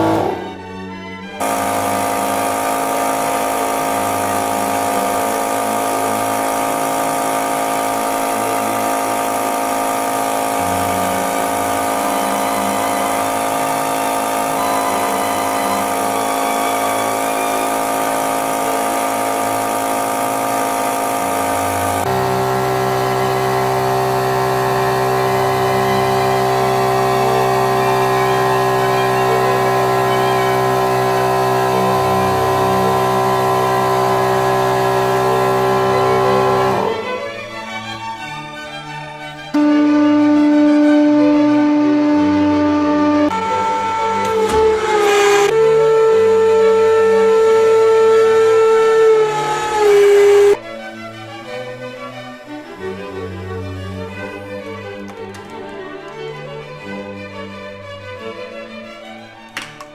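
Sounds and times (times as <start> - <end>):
hydraulic press motor hum: 0.0 - 0.6, 1.4 - 38.9, 39.5 - 50.6.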